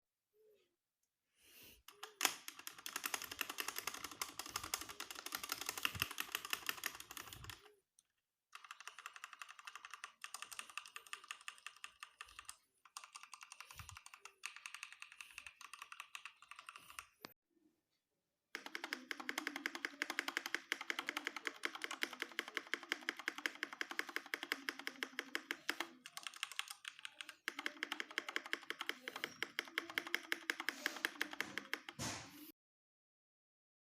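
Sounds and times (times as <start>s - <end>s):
mechanical keyboard typing: 1.9s - 7.7s, 8.5s - 17.2s, 18.6s - 32.2s.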